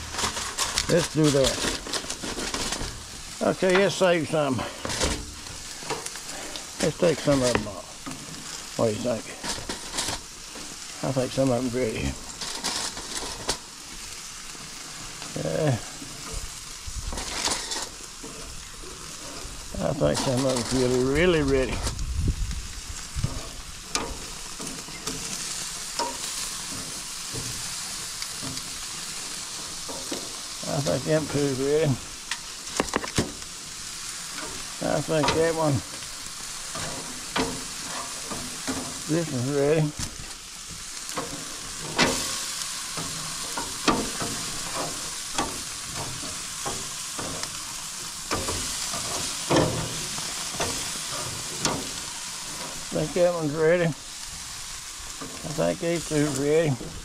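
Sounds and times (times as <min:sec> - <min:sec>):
meat sizzling on grill: 0:00.0 - 0:57.0.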